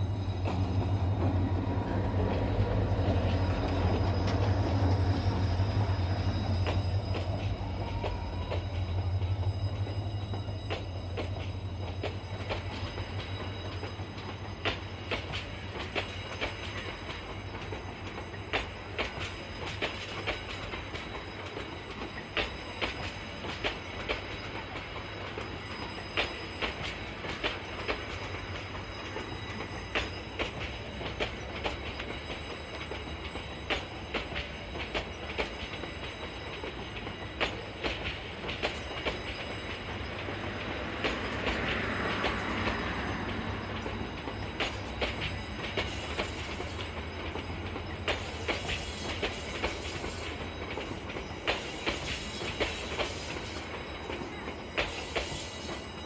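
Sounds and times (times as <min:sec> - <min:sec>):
train coaches rumbling past: 0:00.0 - 0:56.0.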